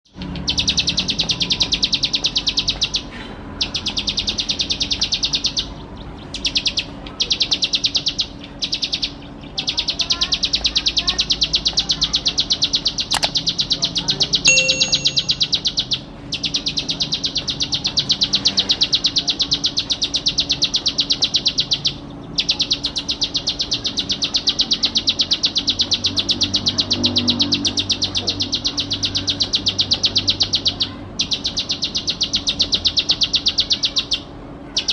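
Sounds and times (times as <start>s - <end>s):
bird singing buzzy trill: 0.0s - 34.9s.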